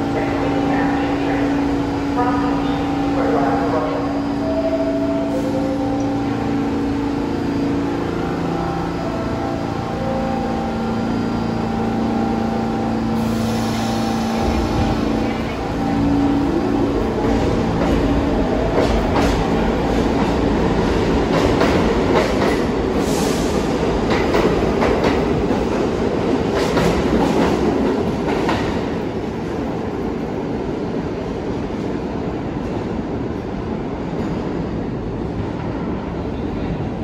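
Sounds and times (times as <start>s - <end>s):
subway train rumbling: 0.0s - 37.0s.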